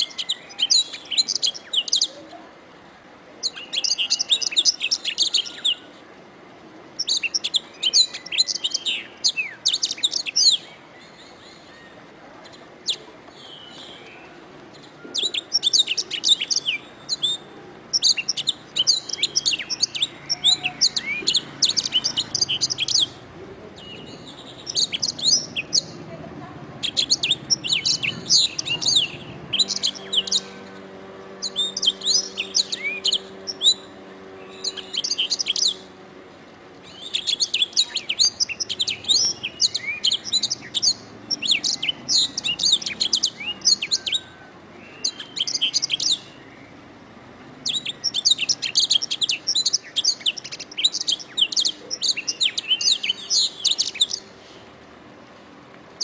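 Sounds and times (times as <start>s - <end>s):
canary singing trills: 0.0s - 2.5s, 3.4s - 6.0s, 6.9s - 47.0s, 47.6s - 54.6s.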